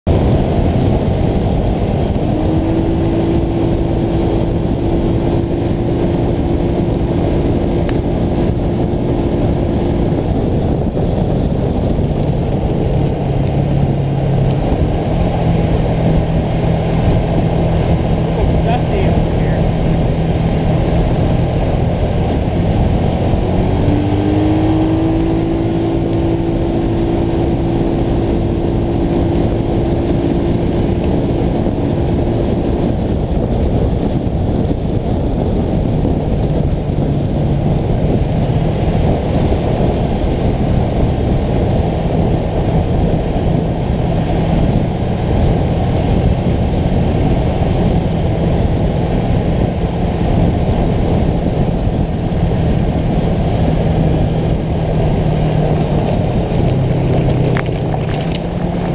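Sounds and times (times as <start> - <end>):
quad engine running: 0.0 - 58.9
wind on microphone: 0.0 - 58.9.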